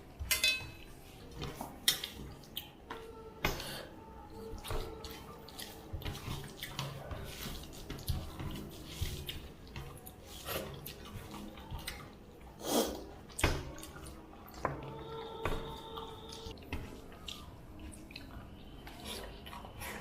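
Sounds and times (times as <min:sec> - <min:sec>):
wet eating sounds: 0:00.8 - 0:20.0.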